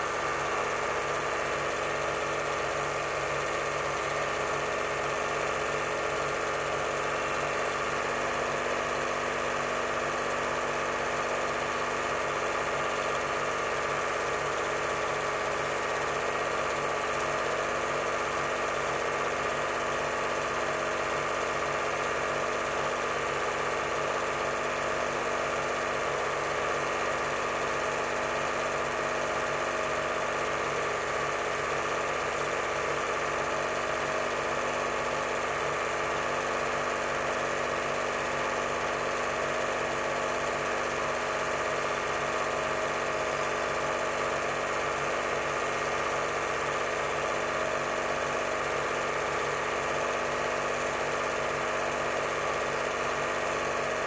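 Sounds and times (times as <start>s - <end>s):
film projector running: 0.0s - 54.0s.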